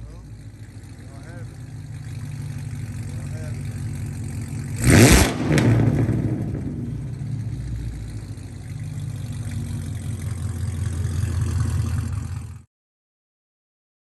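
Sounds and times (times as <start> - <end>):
car engine idling: 0.0 - 12.7.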